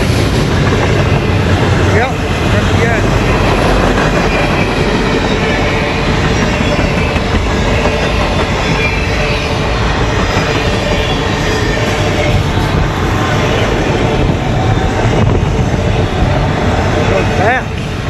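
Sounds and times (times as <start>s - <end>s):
freight train rumbling past: 0.0s - 18.0s
train wheel squeal: 0.0s - 18.0s.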